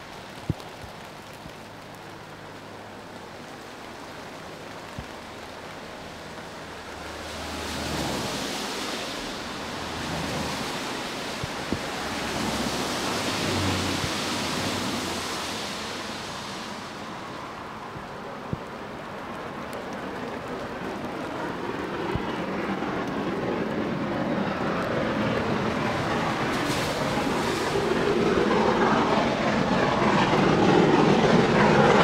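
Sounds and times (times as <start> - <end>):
rain hissing: 0.0 - 32.0.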